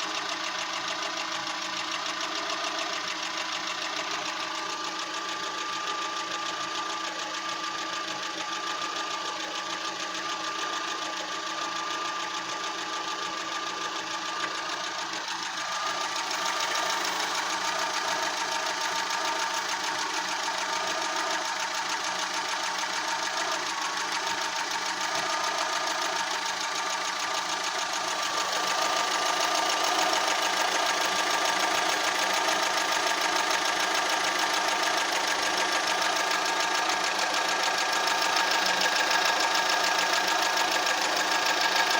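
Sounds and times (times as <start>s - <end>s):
car engine idling roughly: 0.0s - 41.9s.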